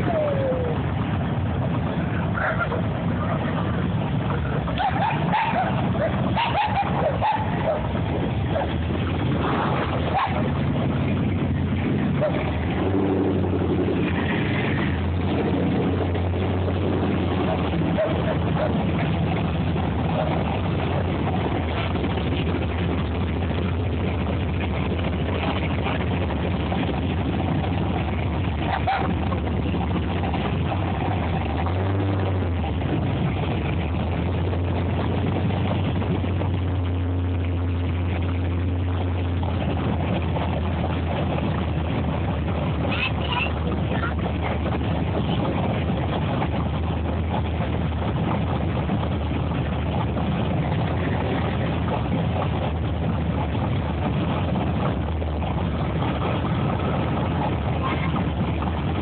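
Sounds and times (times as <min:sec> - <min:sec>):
car engines rumbling: 0:00.0 - 0:59.0.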